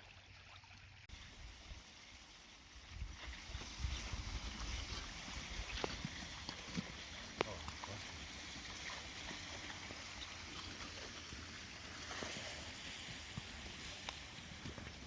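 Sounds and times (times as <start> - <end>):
floodwater running and trickling: 0.0 - 15.0.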